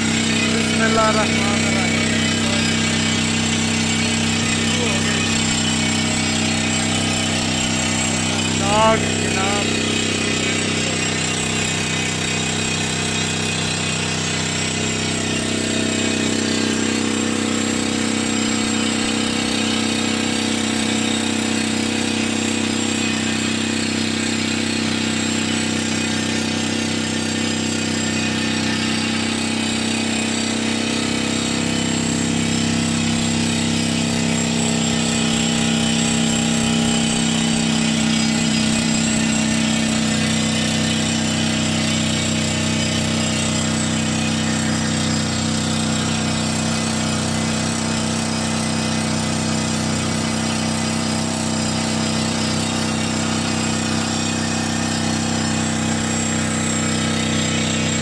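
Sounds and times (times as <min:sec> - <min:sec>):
engine hum: 0:00.0 - 0:58.0
rock drill hammering: 0:00.0 - 0:58.0.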